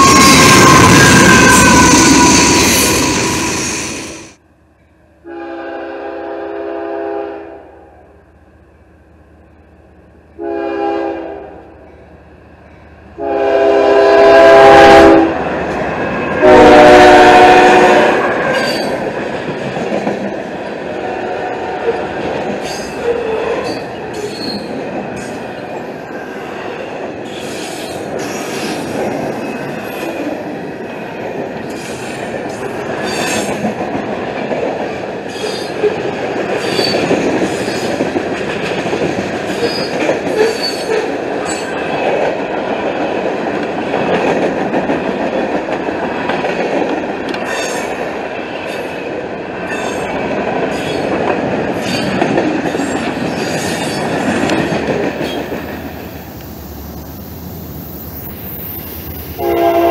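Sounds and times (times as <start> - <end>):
train wheels rumbling on rail: 0.0 - 7.4, 8.2 - 59.9.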